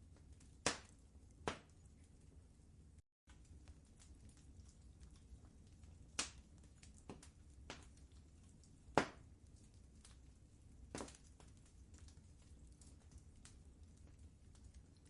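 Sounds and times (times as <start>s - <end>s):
low steady rumble: 0.0s - 15.0s
wood fire popping and snapping: 0.0s - 15.0s.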